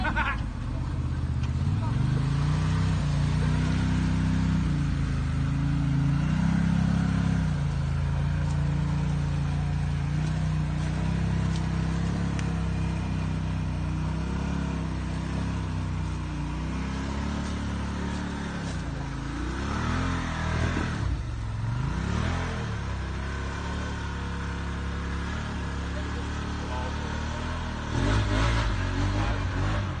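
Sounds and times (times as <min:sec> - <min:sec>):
engine revving under load: 0:01.0 - 0:30.0.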